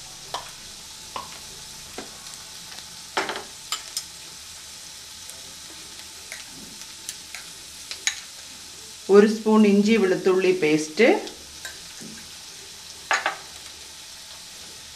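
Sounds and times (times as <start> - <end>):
chicken sizzling in butter: 0.0 - 14.9.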